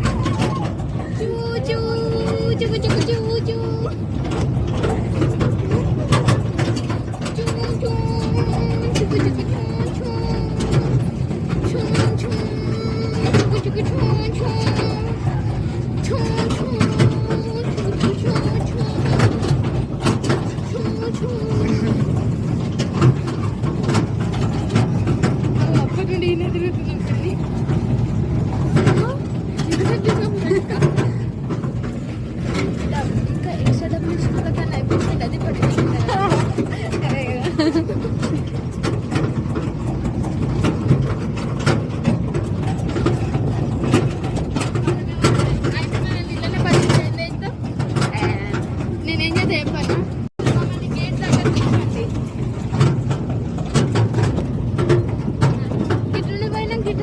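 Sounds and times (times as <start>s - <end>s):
faint voices: 0.0s - 57.0s
knocks and rattles: 0.0s - 57.0s
vehicle rumbling: 0.0s - 57.0s.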